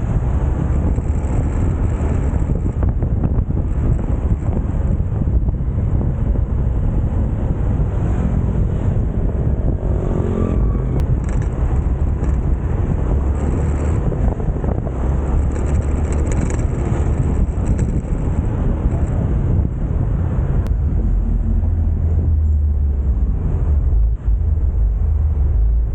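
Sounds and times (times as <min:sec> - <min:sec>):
motorcycle engine: 0:00.0 - 0:22.1
road rumble: 0:00.0 - 0:25.9
wind buffeting on microphone: 0:00.0 - 0:25.9.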